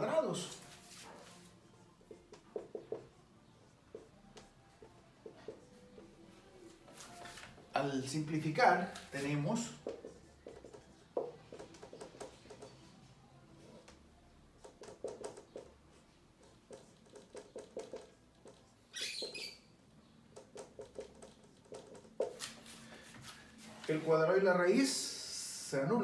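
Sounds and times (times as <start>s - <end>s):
marker squeaking on whiteboard: 0.0s - 6.3s, 6.9s - 23.3s.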